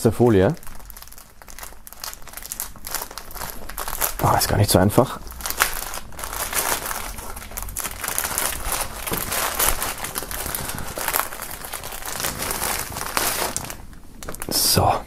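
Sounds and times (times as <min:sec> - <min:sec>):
plastic film crinkling: 0:00.0 - 0:14.9.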